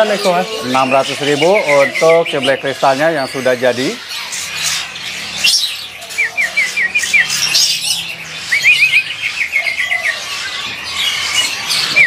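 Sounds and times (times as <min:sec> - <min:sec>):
birds calling in background: 0:00.0 - 0:12.0
songbird chirping runs: 0:00.0 - 0:12.0.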